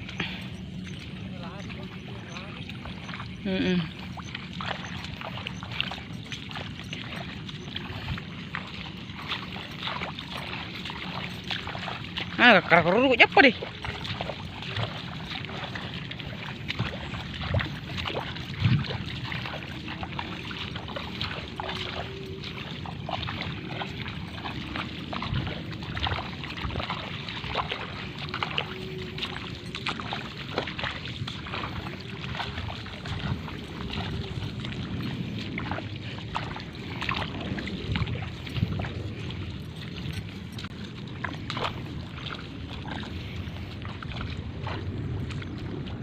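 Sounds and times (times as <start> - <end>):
small water splashes: 0.0 - 46.0.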